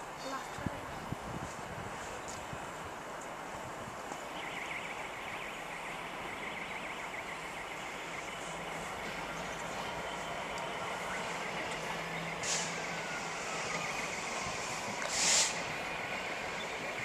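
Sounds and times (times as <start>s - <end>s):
diesel locomotive engine rumble: 0.0s - 17.0s
train track noise: 0.0s - 17.0s.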